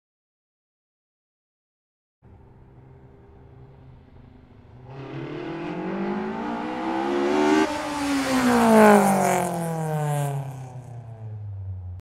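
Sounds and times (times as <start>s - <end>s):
car engine revving: 2.2s - 12.0s.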